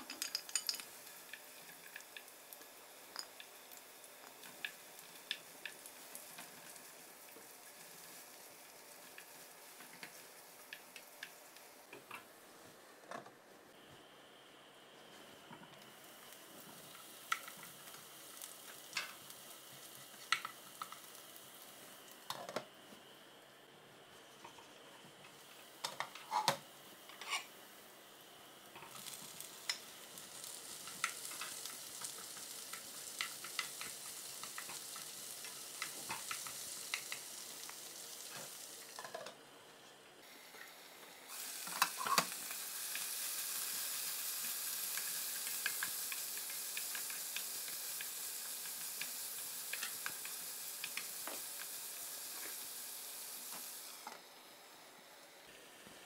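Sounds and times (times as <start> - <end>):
peppers frying: 0.0 - 12.4, 15.1 - 23.2, 24.2 - 39.5, 40.2 - 56.0
onions sizzling in a pan: 0.0 - 12.6, 14.8 - 39.4, 40.2 - 56.0.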